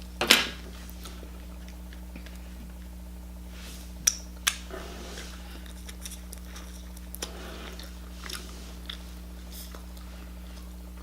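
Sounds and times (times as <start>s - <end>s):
low electrical hum: 0.0s - 11.0s
wet chewing: 0.8s - 3.0s, 4.0s - 10.8s.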